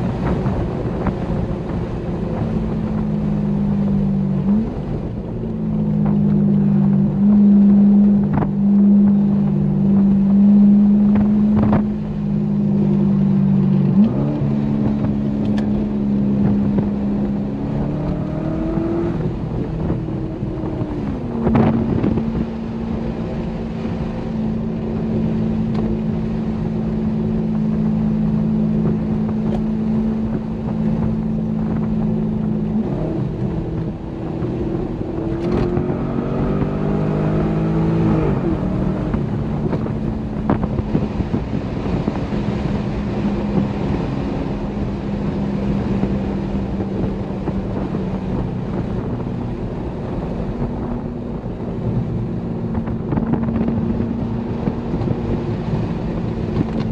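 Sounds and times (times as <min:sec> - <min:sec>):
car engine cruising and accelerating: 0:00.0 - 0:56.9
wind noise: 0:00.0 - 0:56.9.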